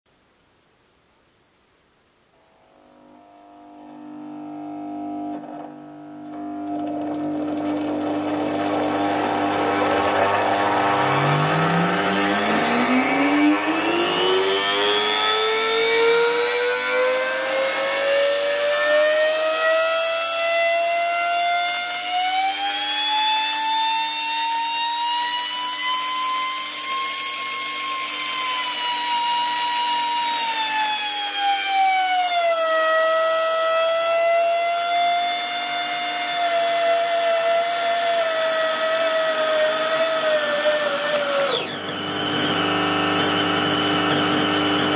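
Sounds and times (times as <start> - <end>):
small electric motor whining: 2.4 - 44.9.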